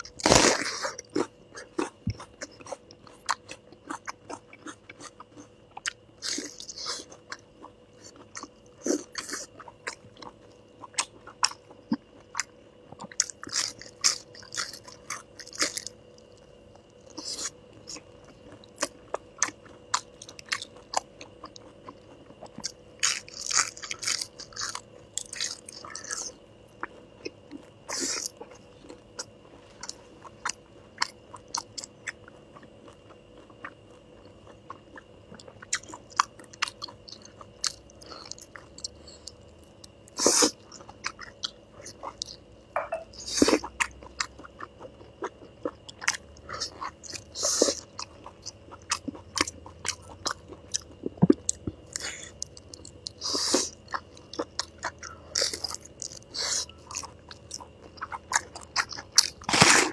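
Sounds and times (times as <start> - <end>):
person chewing wet food: 0.0 - 59.9.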